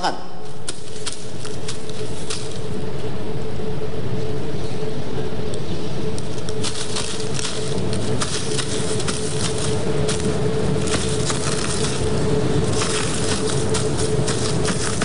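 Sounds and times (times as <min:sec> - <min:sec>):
constant hum: 0:00.0 - 0:15.0
low rumble: 0:00.9 - 0:15.0.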